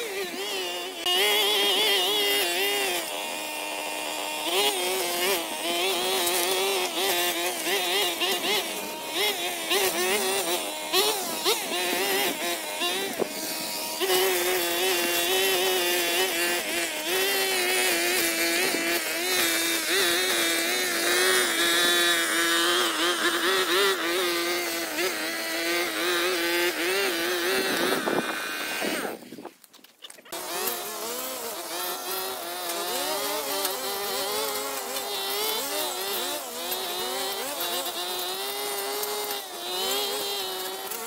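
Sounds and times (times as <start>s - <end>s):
small petrol engine running: 0.0s - 41.0s.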